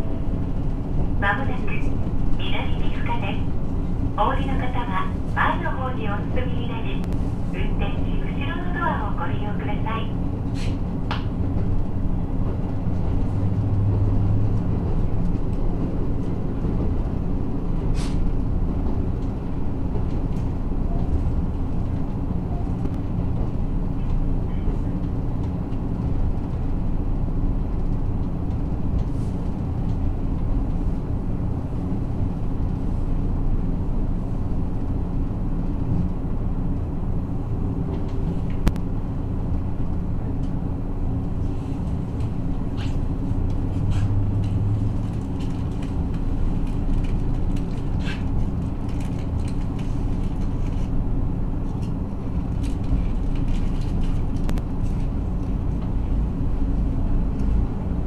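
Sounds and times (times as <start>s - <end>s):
railcar diesel engine droning: 0.0s - 58.0s.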